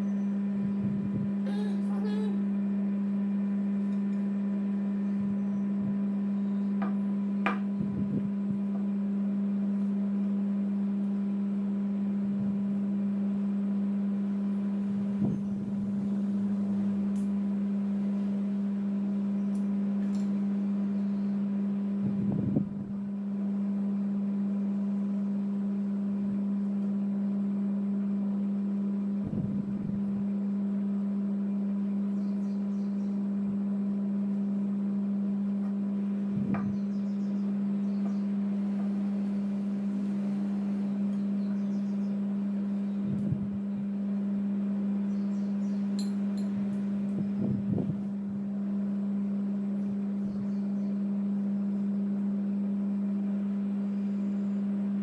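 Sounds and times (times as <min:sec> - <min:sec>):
low-pitched hum: 0:00.0 - 0:55.0.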